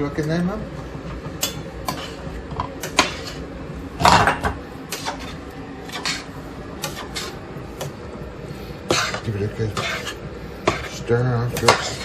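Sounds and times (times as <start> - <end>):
pots and utensils clinking: 1.3 - 7.9, 8.9 - 12.0.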